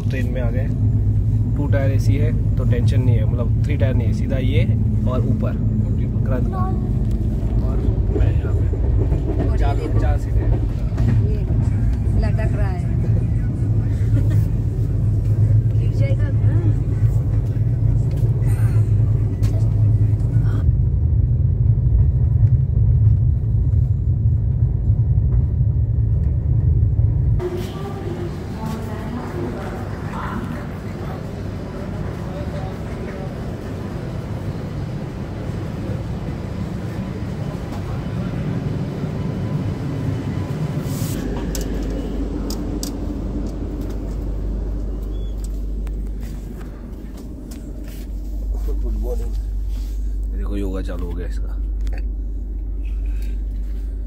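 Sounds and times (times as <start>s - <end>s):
train coach rumbling in motion: 0.0s - 54.0s.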